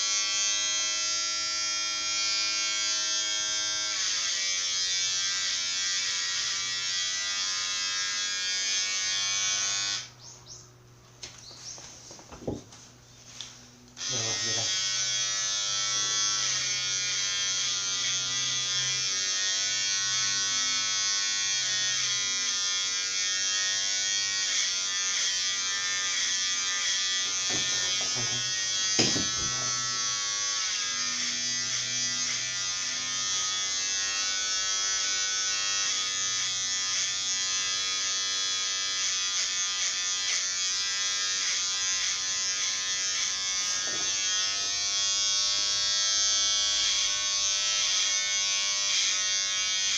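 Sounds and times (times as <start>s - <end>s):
electric hair clipper buzzing: 0.0s - 10.2s, 13.9s - 49.9s.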